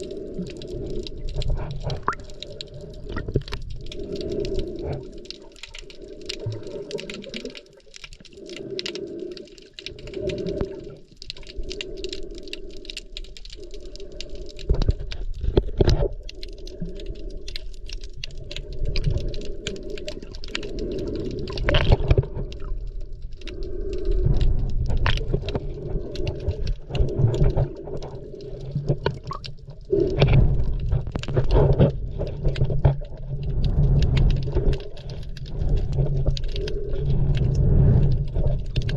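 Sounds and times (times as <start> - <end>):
underwater crackling clicks: 0.0 - 38.9
underwater hum: 0.0 - 38.9.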